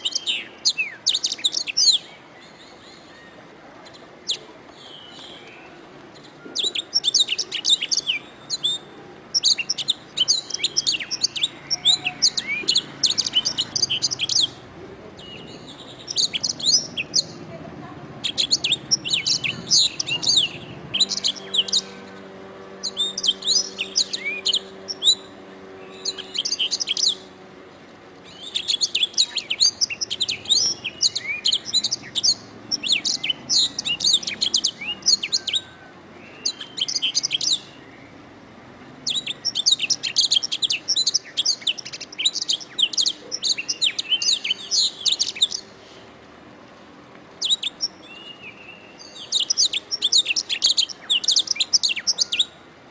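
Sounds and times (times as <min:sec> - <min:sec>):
canary singing: 0:00.0 - 0:46.0, 0:47.4 - 0:52.7.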